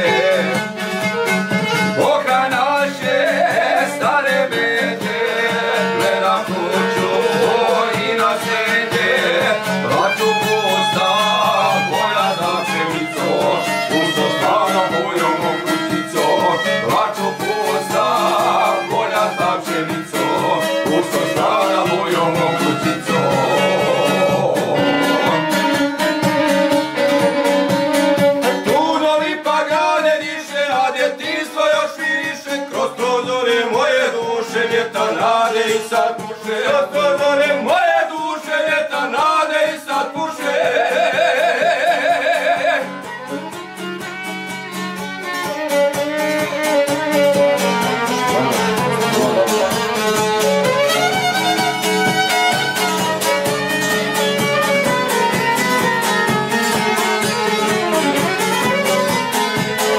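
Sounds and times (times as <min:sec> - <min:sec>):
strummed lute: 0:00.0 - 0:59.9
violin melody: 0:00.0 - 0:59.9.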